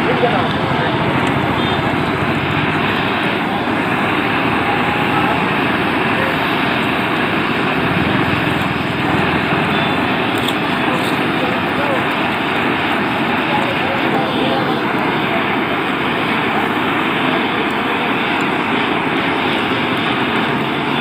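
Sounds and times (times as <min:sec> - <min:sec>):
road works machinery running: 0:00.0 - 0:21.0.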